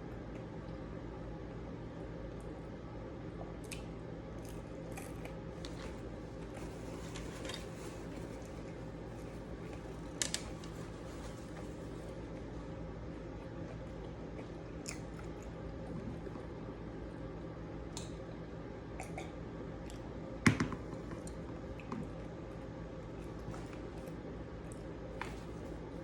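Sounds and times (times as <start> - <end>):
steady background hum: 0.0 - 26.0
soft chewing: 2.3 - 18.3, 18.9 - 20.2, 21.0 - 26.0.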